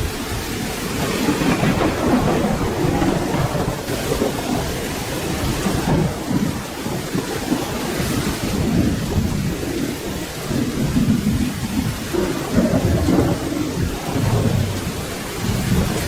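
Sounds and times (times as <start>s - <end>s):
rain falling: 0.0s - 16.0s
thunder rumbling: 0.0s - 16.0s.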